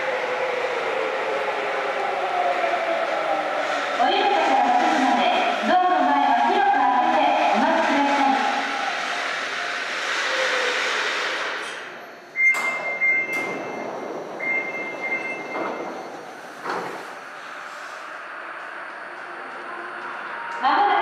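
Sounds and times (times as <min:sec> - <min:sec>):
subway train rolling in: 0:00.0 - 0:21.0.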